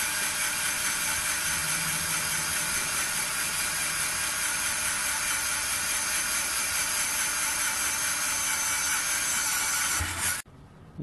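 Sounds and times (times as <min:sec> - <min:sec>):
electric screwdriver drilling steel: 0:00.0 - 0:10.4.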